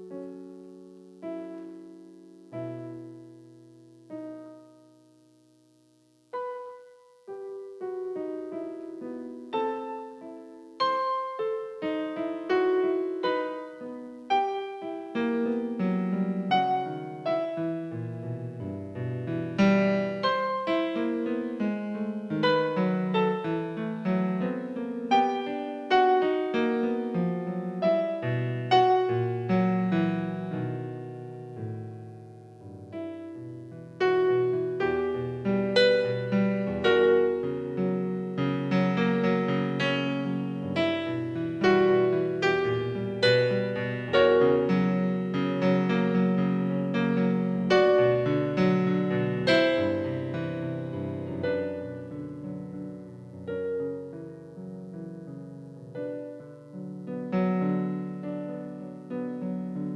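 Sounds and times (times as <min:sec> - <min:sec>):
solo piano melody: 0:00.0 - 0:59.9.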